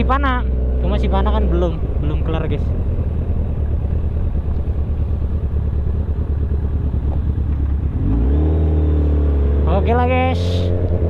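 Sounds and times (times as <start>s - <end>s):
fluttering wind rumble: 0.0s - 11.0s
motorcycle engine running: 0.0s - 11.0s.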